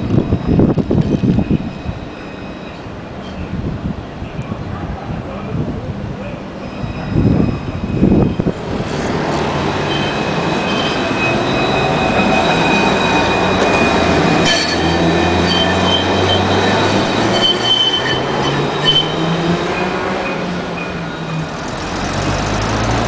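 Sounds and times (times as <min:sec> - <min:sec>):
tram wheels squealing: 0:00.0 - 0:03.6, 0:06.5 - 0:23.0
tram rumbling hum: 0:00.0 - 0:23.0.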